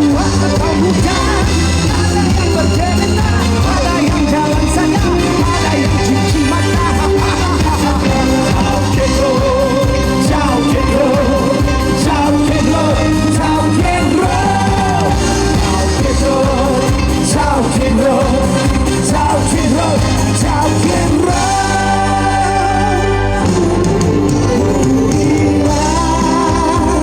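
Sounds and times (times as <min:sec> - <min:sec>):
pop music with singing: 0:00.0 - 0:27.0.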